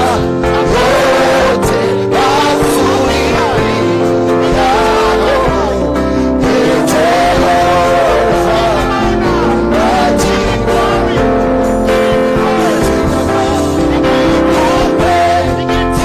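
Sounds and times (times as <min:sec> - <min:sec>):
person singing gospel melody: 0:00.0 - 0:16.0
steady bass: 0:00.0 - 0:16.0
sustained keyboard chords: 0:00.0 - 0:16.0.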